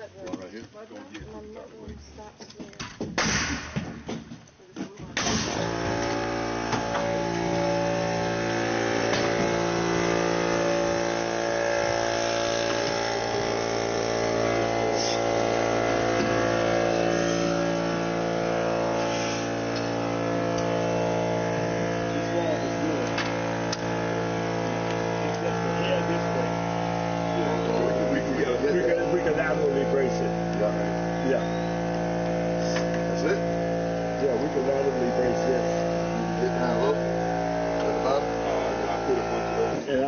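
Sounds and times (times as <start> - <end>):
engine running steadily: 5.2 - 40.0.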